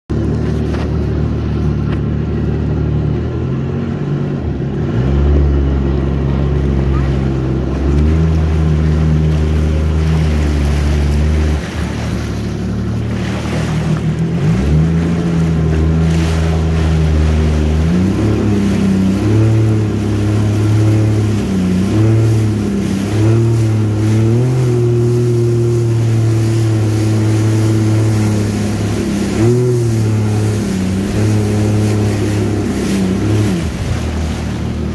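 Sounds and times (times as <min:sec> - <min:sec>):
jet ski engine running: 0:00.1 - 0:34.9
water rushing past hull: 0:00.1 - 0:34.9.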